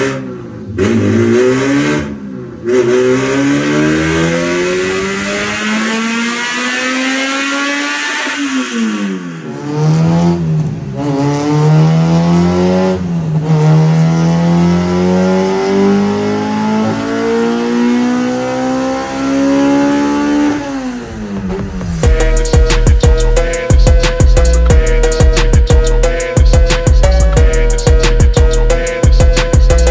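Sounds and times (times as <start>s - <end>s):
car engine revving at full throttle: 0.0s - 29.9s.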